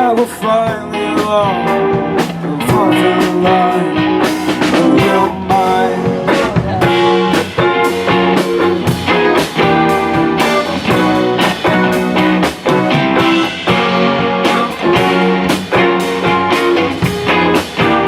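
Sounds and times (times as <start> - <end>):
drums keeping a steady beat: 0.0 - 18.0
electric guitar: 0.0 - 18.0
live rock band playing: 0.0 - 18.0.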